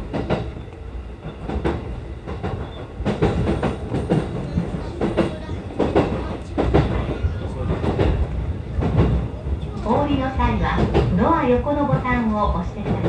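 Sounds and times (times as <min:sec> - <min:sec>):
train wheels knocking on rail joints: 0:00.0 - 0:00.6, 0:01.2 - 0:13.0
low train rumble: 0:00.0 - 0:13.0.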